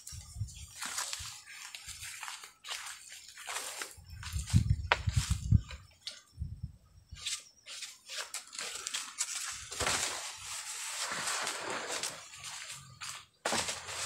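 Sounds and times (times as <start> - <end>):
leaves and twigs rustling: 0.0 - 6.3, 7.2 - 14.0.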